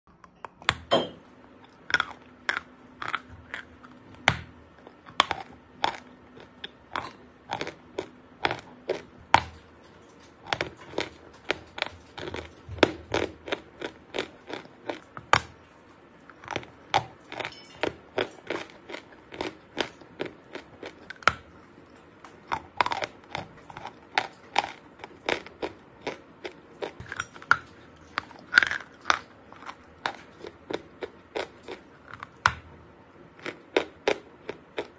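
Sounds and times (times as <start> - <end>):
chalk crunching as chewed: 1.6 - 17.5, 18.1 - 32.6, 33.4 - 34.9.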